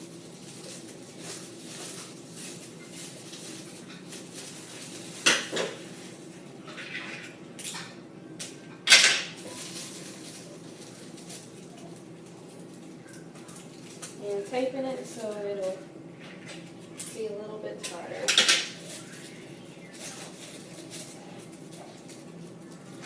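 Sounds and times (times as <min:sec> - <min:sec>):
foil sheet rustling and crinkling: 0:00.0 - 0:07.4, 0:09.3 - 0:23.0.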